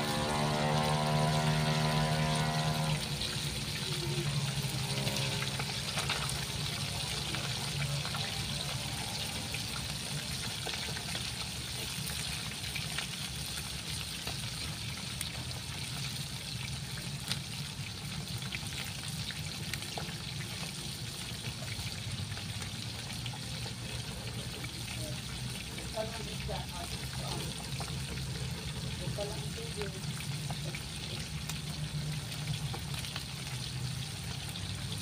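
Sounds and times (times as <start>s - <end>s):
fish frying in hot oil: 0.0s - 35.0s.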